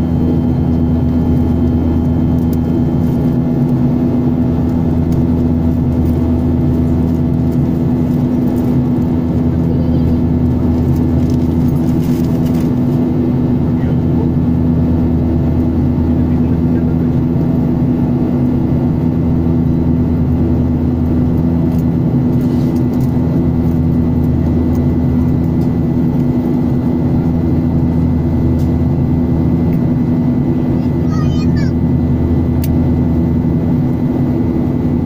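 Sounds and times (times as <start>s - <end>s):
jet cabin engine drone: 0.0s - 35.0s.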